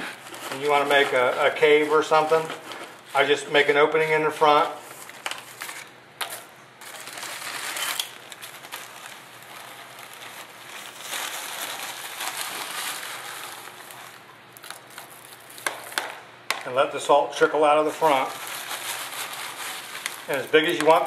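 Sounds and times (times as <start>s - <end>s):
plastic bag crinkling: 0.0s - 16.2s, 17.7s - 21.0s.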